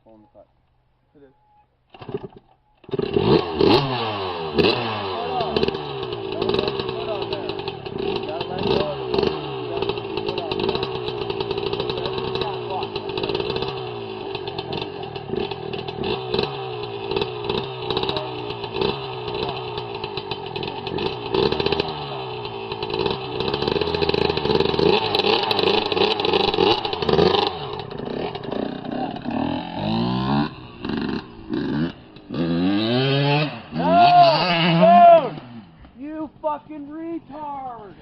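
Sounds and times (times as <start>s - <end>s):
dirt bike engine revving: 2.0s - 38.0s.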